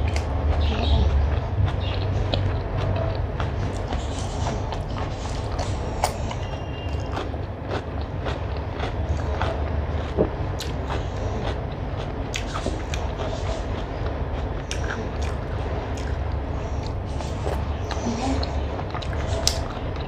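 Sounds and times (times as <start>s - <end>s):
chewing crunches: 0.0s - 20.0s
steady low hum: 0.0s - 20.0s.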